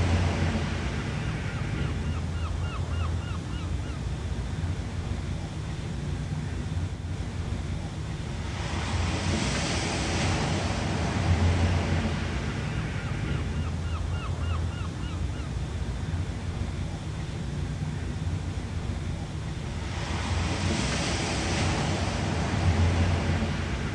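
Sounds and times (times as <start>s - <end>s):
low rumble of sea: 0.0s - 23.9s
wave washing in: 0.0s - 23.9s.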